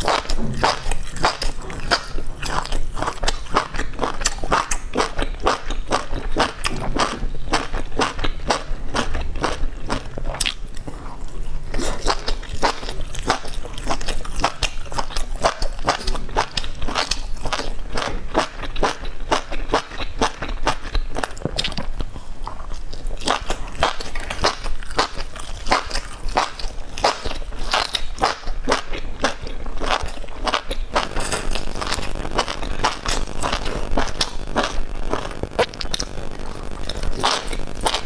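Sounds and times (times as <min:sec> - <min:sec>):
person chewing with clicks: 0:00.0 - 0:38.0.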